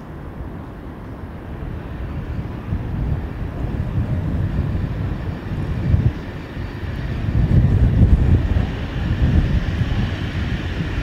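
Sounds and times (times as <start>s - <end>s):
diesel train engine and wheel rumble: 0.0s - 11.0s.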